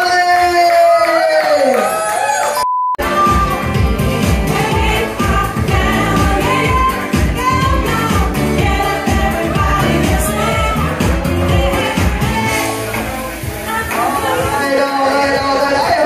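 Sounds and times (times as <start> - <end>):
pop song with dance beat: 2.2 - 16.0.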